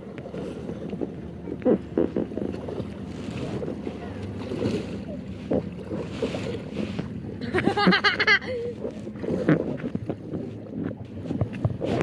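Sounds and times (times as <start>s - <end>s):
water rushing and boat noise: 0.0s - 12.0s
water splashes: 0.0s - 12.0s
wind buffeting microphone: 0.0s - 12.0s.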